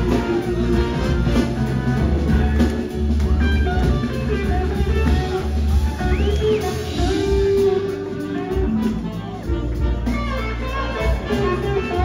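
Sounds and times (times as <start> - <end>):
electric guitar lead: 0.0 - 12.0
live blues-rock band playing: 0.0 - 12.0.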